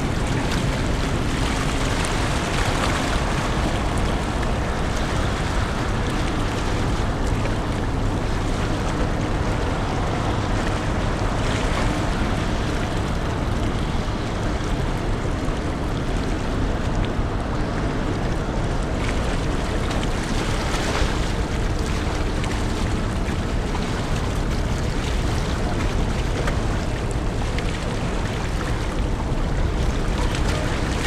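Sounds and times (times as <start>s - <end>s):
ferry engine rumble: 0.0s - 31.0s
rushing water: 0.0s - 31.0s
wind buffeting microphone: 0.0s - 31.0s.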